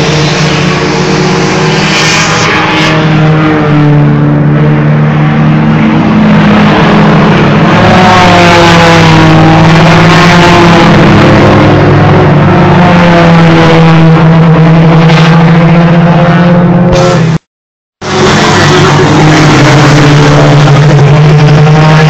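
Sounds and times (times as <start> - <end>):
stock car engines racing past: 0.0 - 17.4, 18.0 - 22.0.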